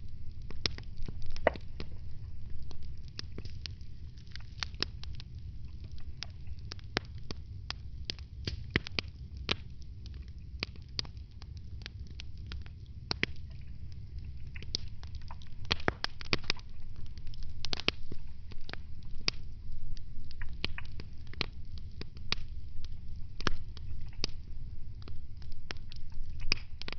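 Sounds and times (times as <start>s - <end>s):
low fire rumble: 0.0s - 26.9s
wood fire crackling: 0.0s - 26.9s.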